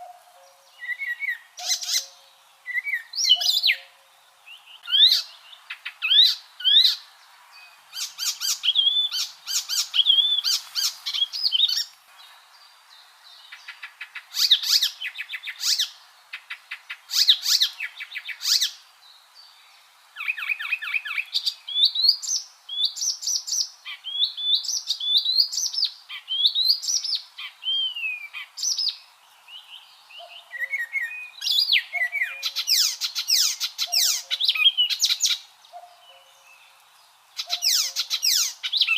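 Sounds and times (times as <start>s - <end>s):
warbler singing: 0.0s - 38.9s.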